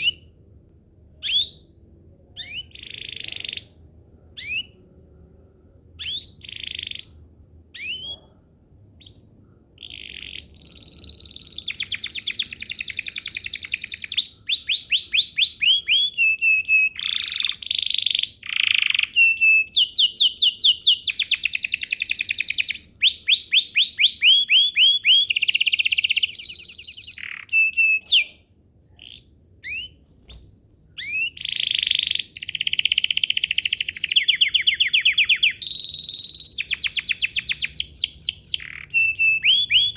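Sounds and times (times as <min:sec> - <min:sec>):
canary singing trills: 0:00.0 - 0:00.4, 0:01.2 - 0:05.0, 0:06.0 - 0:39.9
canary chirps: 0:00.0 - 0:39.9.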